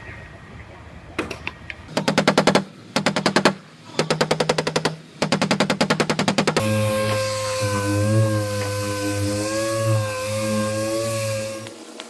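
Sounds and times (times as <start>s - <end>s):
air hammer on car body metal: 2.0s - 11.8s.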